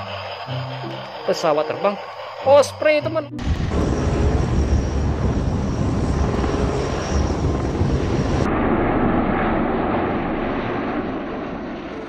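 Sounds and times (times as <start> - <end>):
aircraft rotor throb: 0.0 - 12.0.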